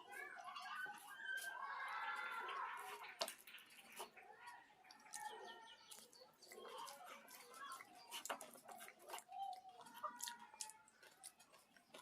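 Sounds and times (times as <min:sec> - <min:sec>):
person chewing food: 0:02.4 - 0:12.0.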